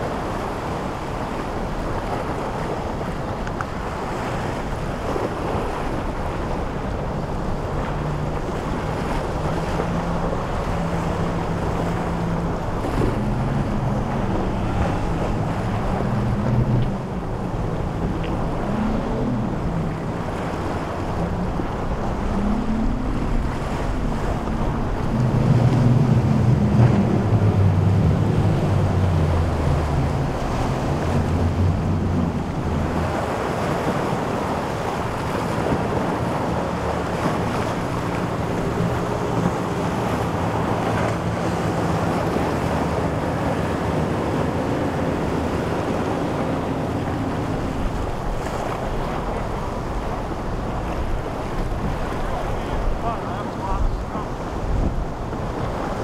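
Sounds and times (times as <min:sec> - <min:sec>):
powerboat engines running: 0:00.0 - 0:56.0
surf washing: 0:00.0 - 0:56.0
wind buffeting the microphone: 0:00.0 - 0:56.0.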